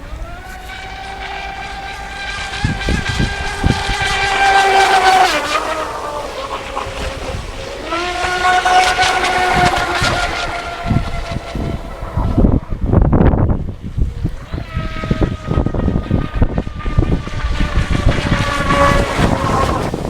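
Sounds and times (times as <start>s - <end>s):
electric boat motor whining: 0.0s - 20.0s
wind buffeting microphone: 0.0s - 20.0s.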